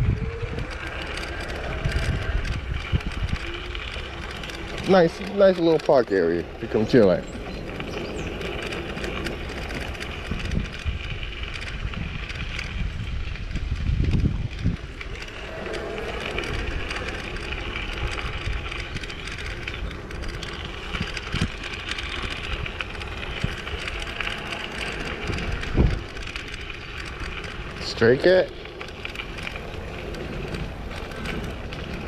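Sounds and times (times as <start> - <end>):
tyre and road noise: 0.0 - 32.0
wind buffeting microphone: 0.0 - 32.0.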